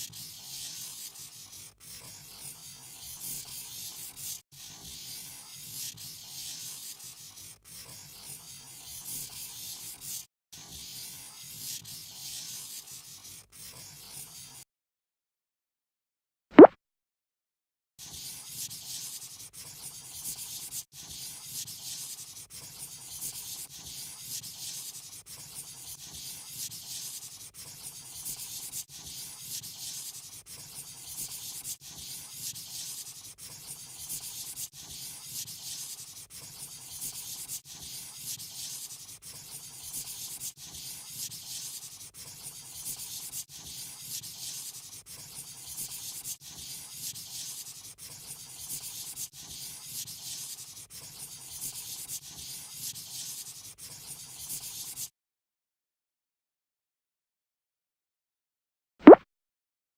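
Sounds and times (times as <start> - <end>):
marker scratching on paper: 0.0 - 14.7, 18.0 - 55.1.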